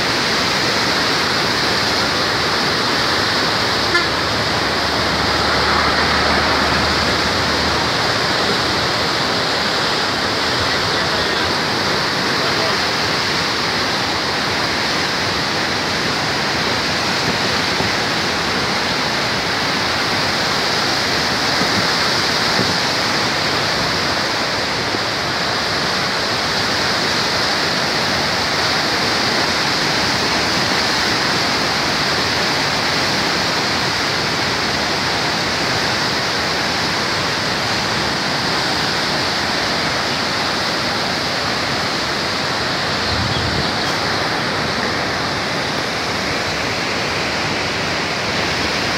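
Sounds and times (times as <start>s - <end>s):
floodwater roaring: 0.0s - 48.9s.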